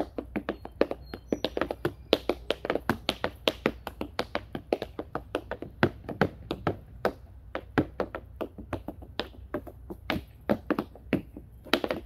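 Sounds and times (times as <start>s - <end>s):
tap shoes on wooden board: 0.0s - 12.0s.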